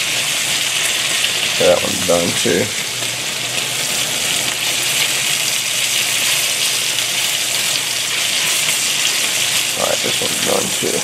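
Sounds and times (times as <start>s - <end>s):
steaks sizzling in a skillet: 0.0s - 11.0s.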